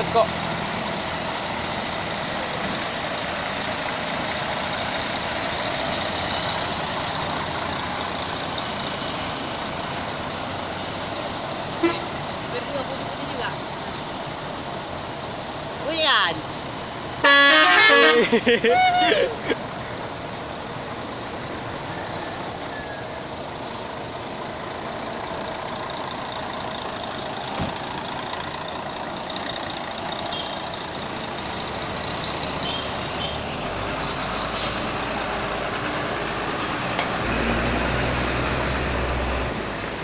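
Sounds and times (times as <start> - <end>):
large engine rumbling: 0.0 - 40.0
passing traffic: 0.0 - 40.0.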